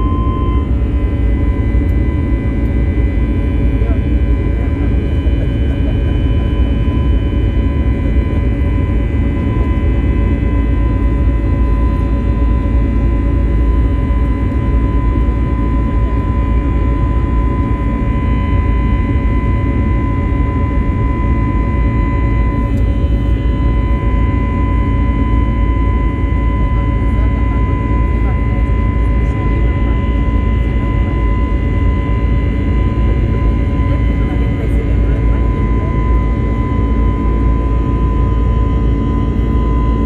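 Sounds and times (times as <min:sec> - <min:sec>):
jet engines rumbling: 0:00.0 - 0:40.0
steady whining tones: 0:00.0 - 0:40.0.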